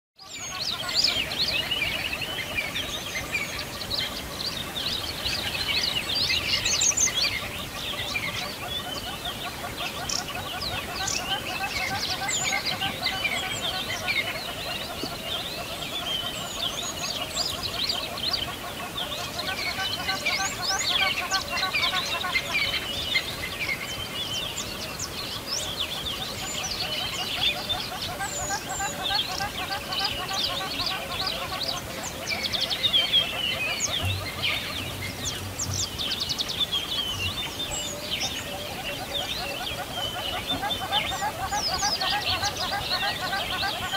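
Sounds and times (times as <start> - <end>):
small birds chirping: 0.2 - 43.9
steady background hiss: 0.3 - 43.9.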